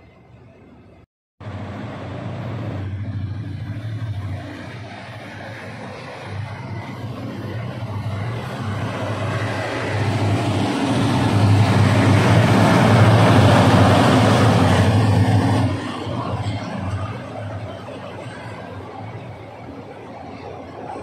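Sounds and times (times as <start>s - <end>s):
diesel locomotive engine drone: 0.0s - 21.0s
train coaches rumbling: 1.4s - 21.0s.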